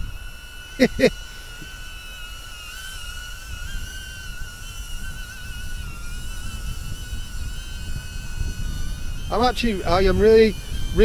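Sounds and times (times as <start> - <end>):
wind rumble on microphone: 0.0 - 1.2, 3.0 - 11.0
drone propellers whining: 0.0 - 11.0.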